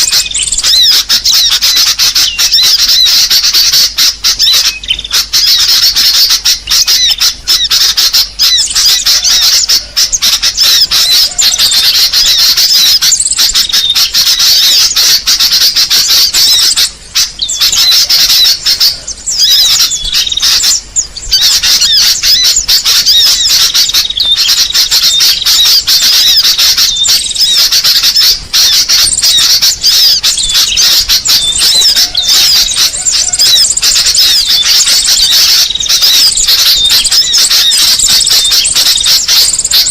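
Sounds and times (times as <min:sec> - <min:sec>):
small birds chattering and chirping: 0:00.0 - 0:39.9.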